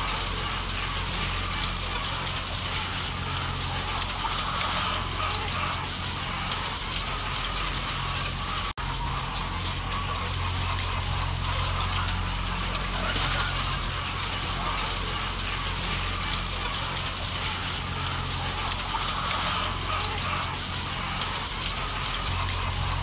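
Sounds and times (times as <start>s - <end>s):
hens chattering: 0.0s - 23.0s
low machine hum: 0.0s - 23.0s.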